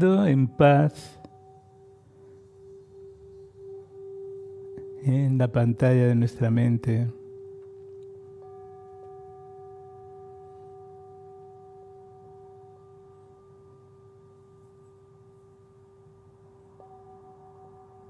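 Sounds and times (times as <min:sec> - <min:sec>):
meditation music of held tones: 0:00.0 - 0:18.0.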